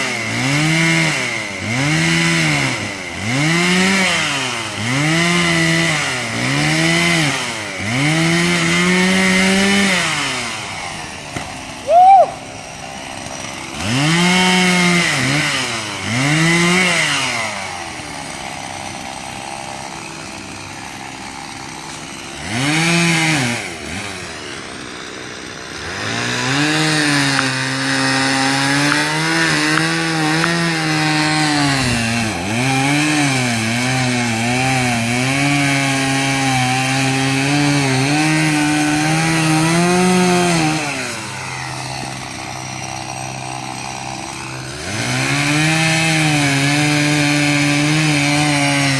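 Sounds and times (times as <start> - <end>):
chainsaw cutting wood: 0.0 - 48.9
chainsaw engine revving: 0.0 - 48.9.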